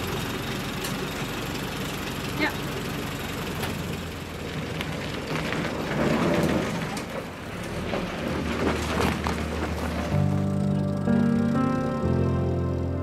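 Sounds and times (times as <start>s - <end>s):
tyres crunching on dirt: 0.0s - 11.5s
vehicle body rattling: 0.0s - 11.6s
vehicle engine running: 0.0s - 13.0s.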